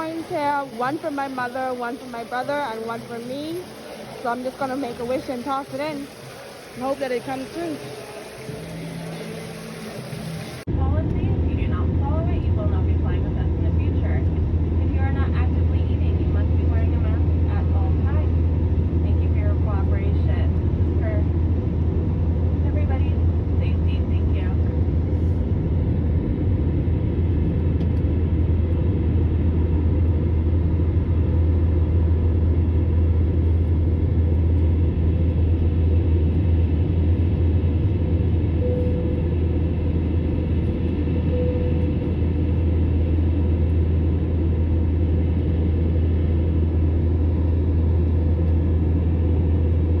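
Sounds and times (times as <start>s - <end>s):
vehicle rumble in motion: 8.6s - 50.0s.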